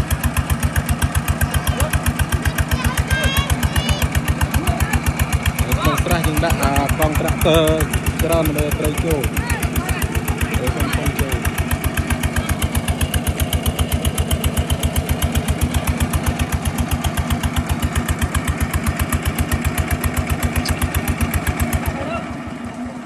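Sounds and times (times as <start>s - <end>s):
water pump engine running: 0.0s - 23.0s.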